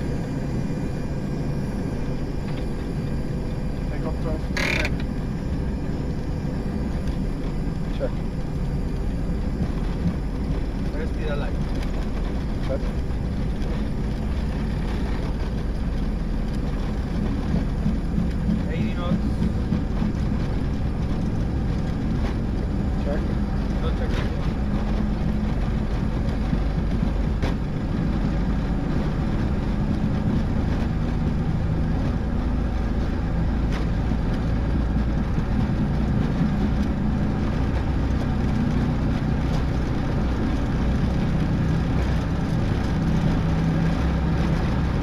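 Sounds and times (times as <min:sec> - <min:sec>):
jet engine and airflow rush: 0:00.0 - 0:45.0
low hum: 0:00.0 - 0:45.0.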